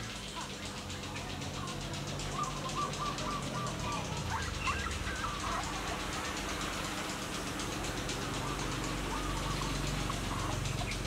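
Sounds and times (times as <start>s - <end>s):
steady low hum: 0.0s - 11.0s
puppies whimpering: 1.0s - 11.0s.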